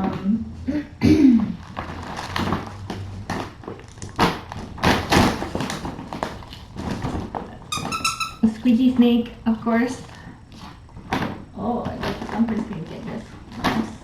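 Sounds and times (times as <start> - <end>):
rustling of handled items: 1.4 - 14.0.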